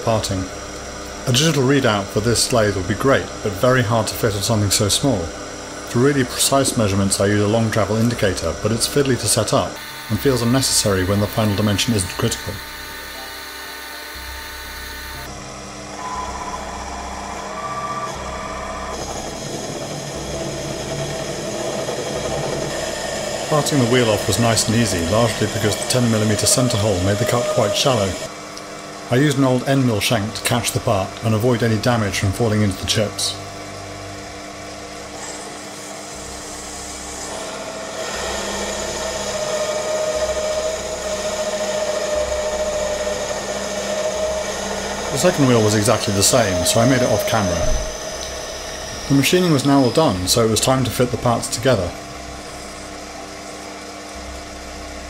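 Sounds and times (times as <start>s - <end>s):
cutting tool whining on metal: 0.0s - 28.6s, 30.5s - 55.0s
lathe motor humming: 0.0s - 28.9s, 33.5s - 55.0s.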